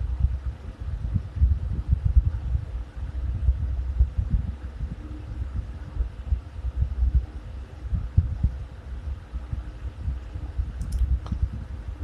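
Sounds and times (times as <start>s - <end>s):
faint steady hum: 0.0s - 12.0s
low rumbling background noise: 0.0s - 12.0s.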